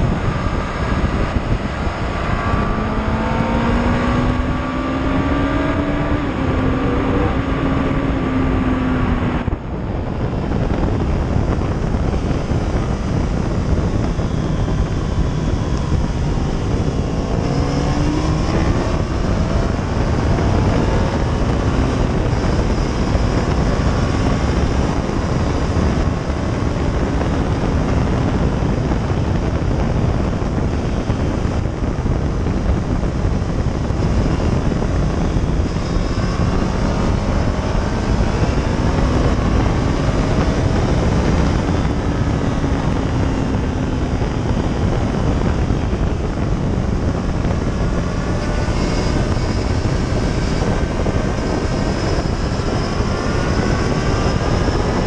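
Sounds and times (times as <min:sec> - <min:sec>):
motorcycle engine: 0:00.0 - 0:55.0
wind rush on microphone: 0:00.0 - 0:55.0.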